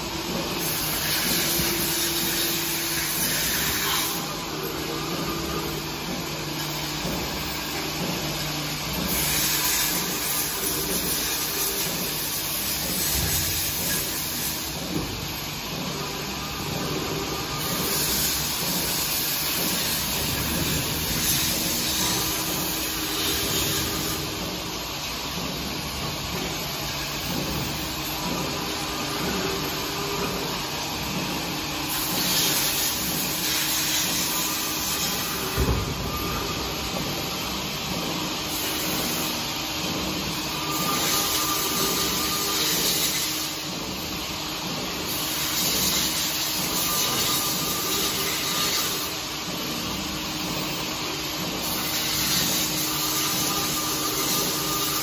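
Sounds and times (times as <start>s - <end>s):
machine hum: 0.0s - 55.0s
machine hissing: 0.3s - 55.0s.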